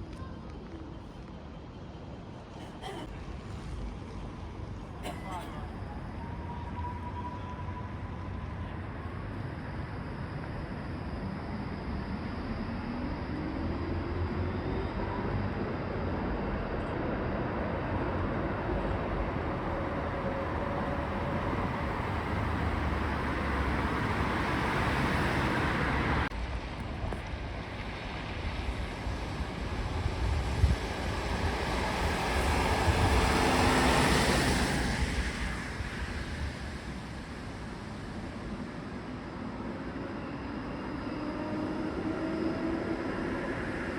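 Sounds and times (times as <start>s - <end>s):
rail vehicle rumbling: 0.0s - 43.9s.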